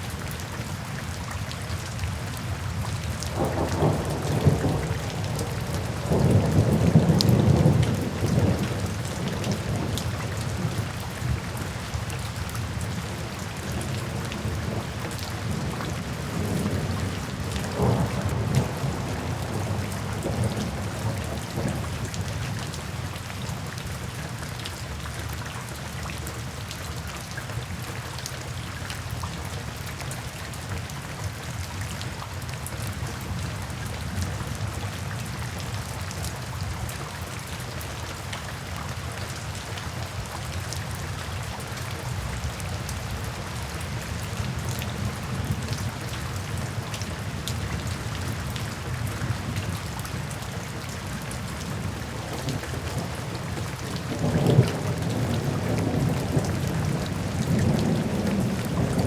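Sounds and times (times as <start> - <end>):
rain drops ticking on surface: 0.0 - 59.0.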